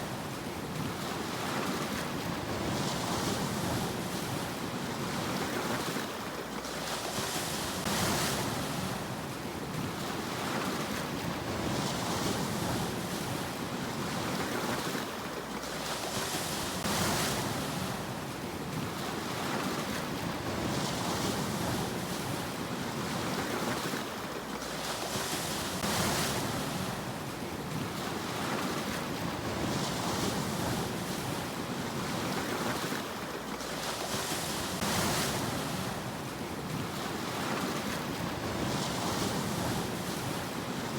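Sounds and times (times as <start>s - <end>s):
sea waves breaking: 0.0s - 40.9s.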